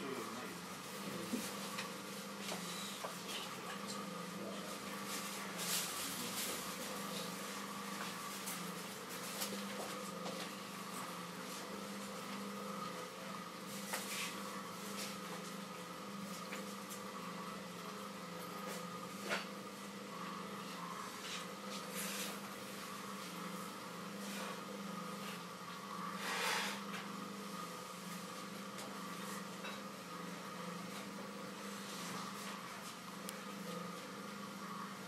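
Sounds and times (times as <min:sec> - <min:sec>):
potter's wheel motor humming: 0:00.0 - 0:35.0.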